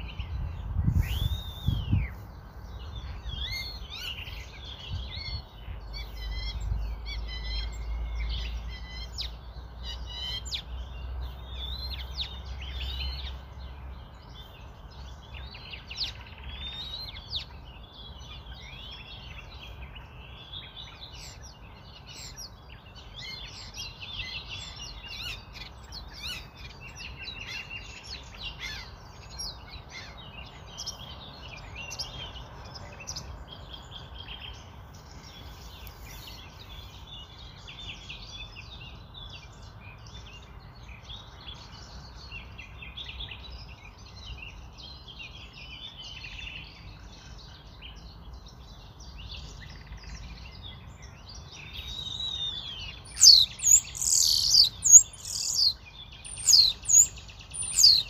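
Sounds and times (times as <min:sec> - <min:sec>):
birds chirping and trilling: 0:00.0 - 0:58.0
loud sweeping bird calls: 0:00.0 - 0:58.0.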